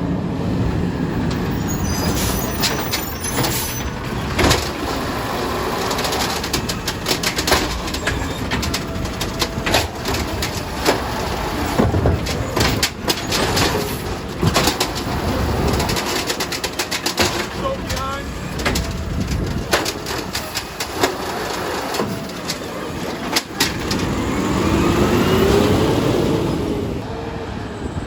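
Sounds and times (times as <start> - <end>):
garbage truck engine running: 0.0 - 28.0
sharp metallic clanks and knocks: 1.3 - 24.2.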